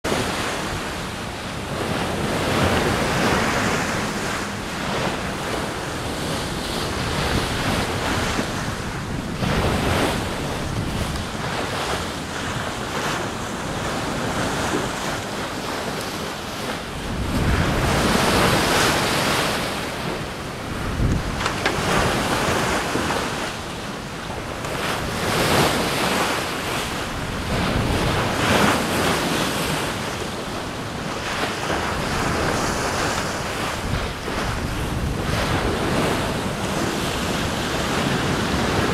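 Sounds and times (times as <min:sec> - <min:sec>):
wind and sea rushing: 0:00.0 - 0:38.9
wind buffeting microphone: 0:00.1 - 0:38.9.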